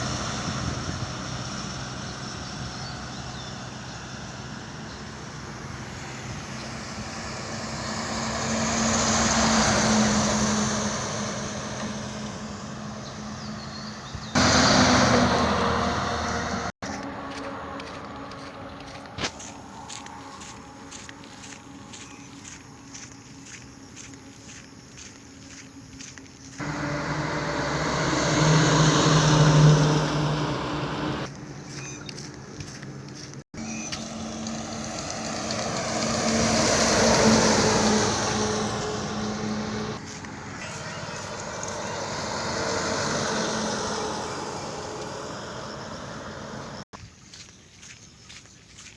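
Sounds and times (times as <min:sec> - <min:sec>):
truck engine passing: 0:00.0 - 0:46.9
vehicle noise: 0:00.0 - 0:48.9.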